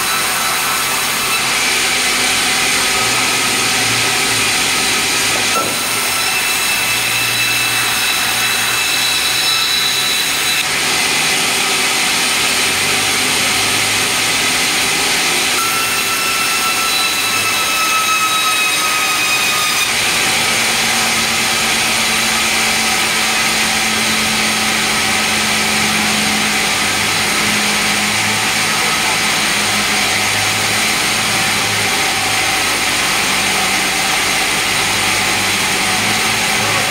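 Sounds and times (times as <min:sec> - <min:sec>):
rip saw cutting planks: 0:00.0 - 0:36.9.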